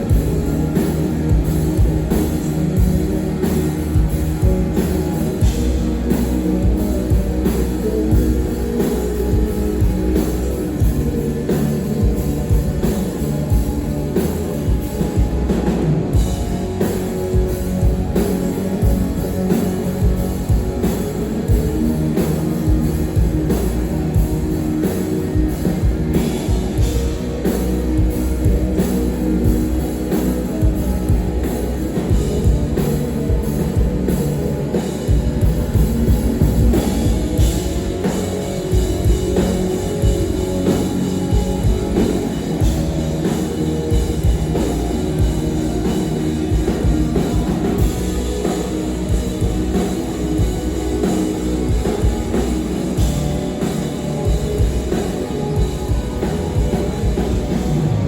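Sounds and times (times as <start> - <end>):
drum kit beat: 0.0 - 58.0
rock band playing: 0.0 - 58.0.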